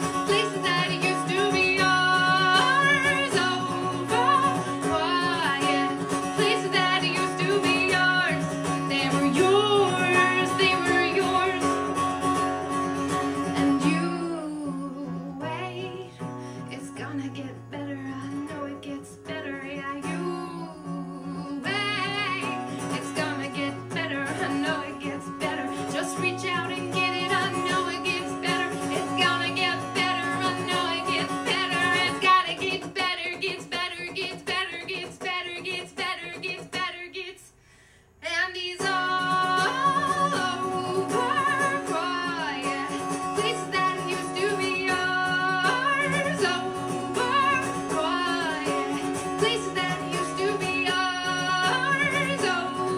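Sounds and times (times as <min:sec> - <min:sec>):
woman singing: 0:00.0 - 0:37.6, 0:38.2 - 0:52.9
acoustic guitar: 0:00.0 - 0:52.9.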